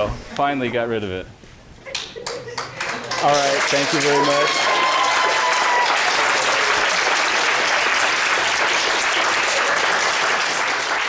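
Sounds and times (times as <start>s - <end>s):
crowd applauding: 2.0s - 11.0s.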